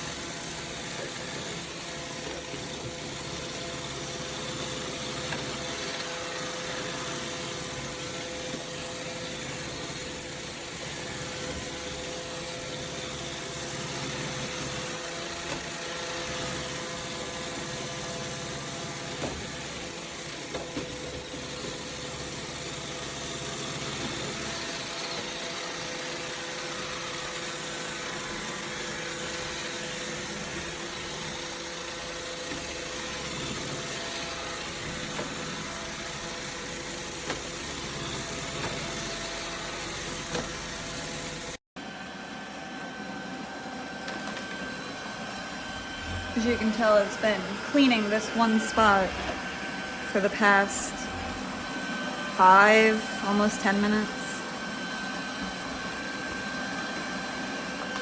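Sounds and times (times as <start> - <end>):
robot vacuum motor whine: 0.0 - 58.0.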